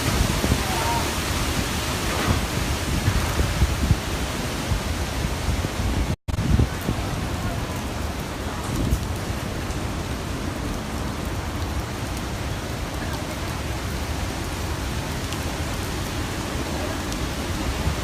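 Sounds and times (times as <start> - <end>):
heavy rain: 0.0 - 18.0
strong wind: 0.0 - 18.0.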